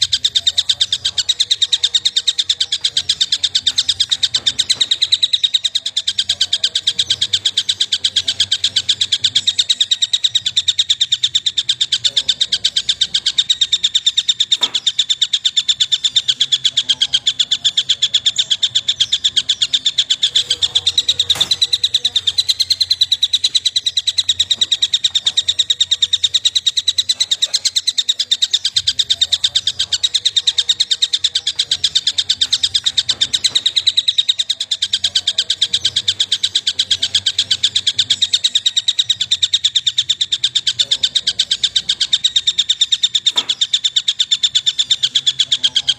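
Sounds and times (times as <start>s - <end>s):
small bird rapid chirping: 0.0s - 45.9s.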